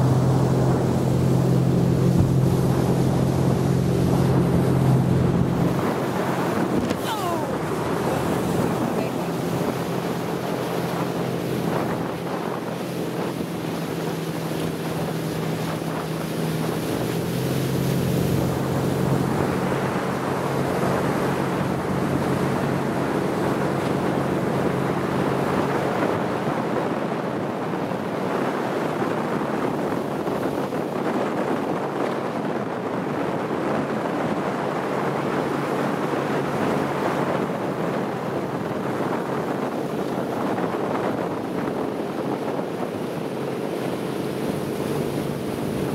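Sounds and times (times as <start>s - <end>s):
motorboat engine humming: 0.0s - 45.9s
water rushing along hull: 0.0s - 45.9s
wind on microphone: 0.0s - 45.9s.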